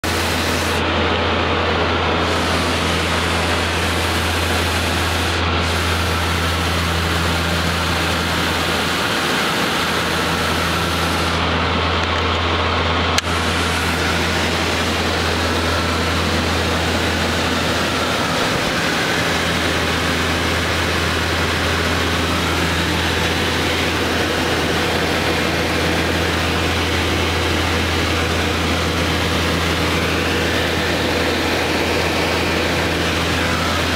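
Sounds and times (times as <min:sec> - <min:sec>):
aircraft cabin engine drone: 0:00.0 - 0:33.9.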